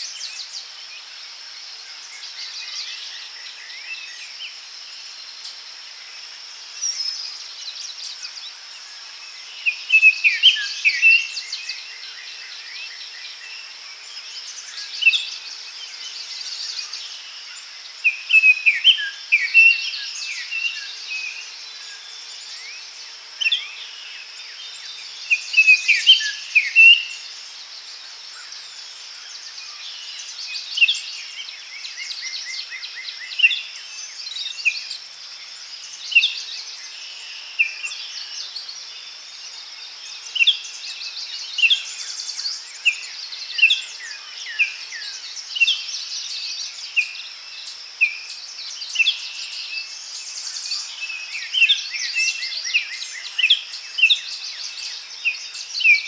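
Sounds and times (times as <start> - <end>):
high insect drone: 0.0 - 56.0
songbirds chirping: 0.0 - 56.0.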